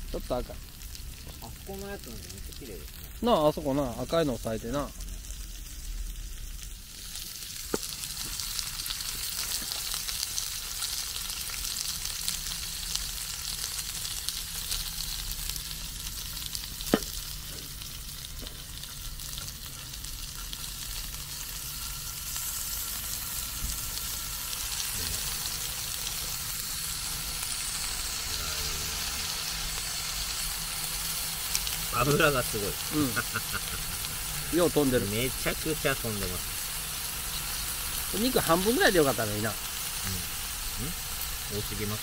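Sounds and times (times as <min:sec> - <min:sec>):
meat sizzling on grill: 0:00.0 - 0:42.0.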